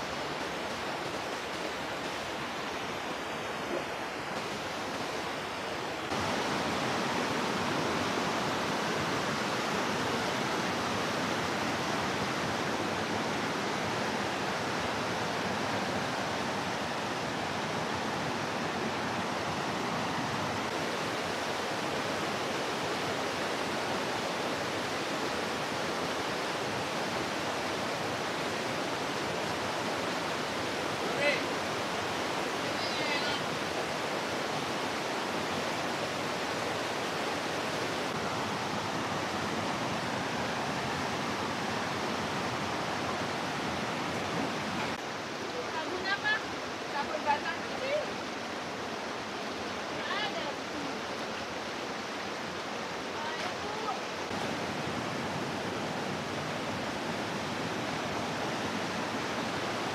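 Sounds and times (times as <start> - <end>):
rushing water roar: 0.0 - 59.9.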